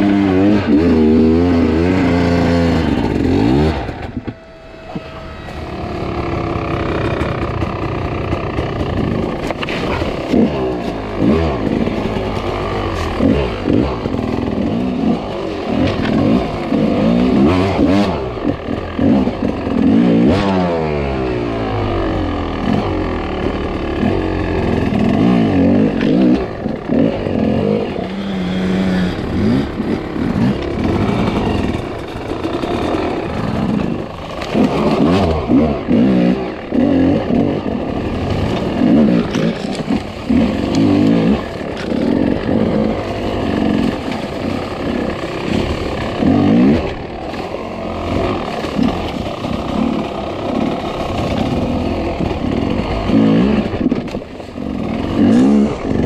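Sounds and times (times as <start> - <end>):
dirt bike engine revving: 0.0 - 56.0
knocks and rattles from bike: 0.0 - 56.0.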